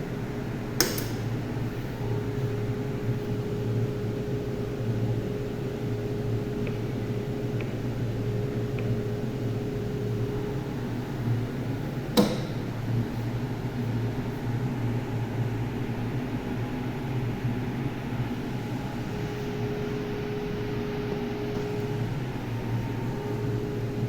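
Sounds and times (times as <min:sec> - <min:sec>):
machine mechanical hum: 0:00.0 - 0:24.0.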